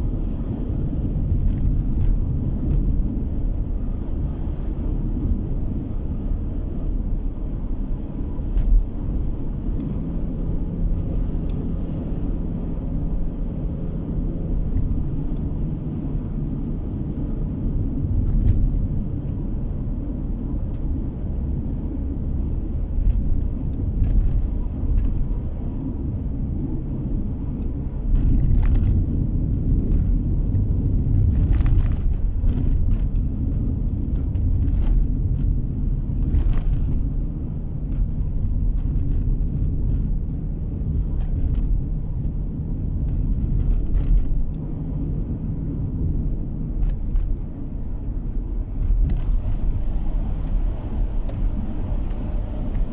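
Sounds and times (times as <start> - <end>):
car road rumble in cabin: 0.0 - 52.9.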